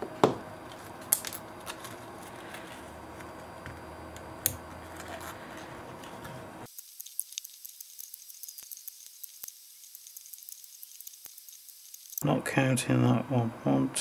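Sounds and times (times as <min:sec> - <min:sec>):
gloved hands handling magnets: 0:00.6 - 0:12.2.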